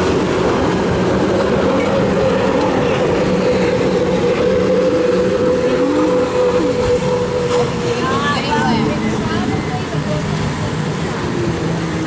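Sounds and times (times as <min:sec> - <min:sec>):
outboard boat engine drone: 0:00.0 - 0:12.0.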